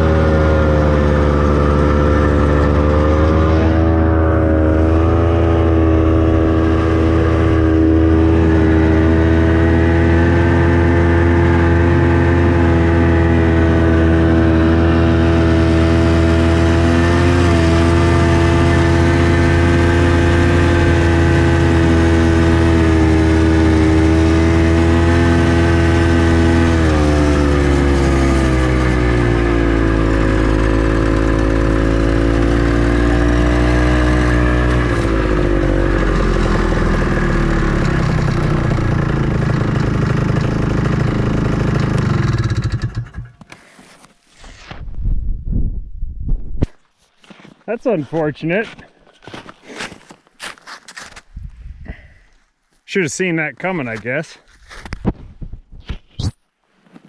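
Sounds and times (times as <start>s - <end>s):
snowmobile engine running: 0.0s - 44.8s, 52.9s - 54.4s.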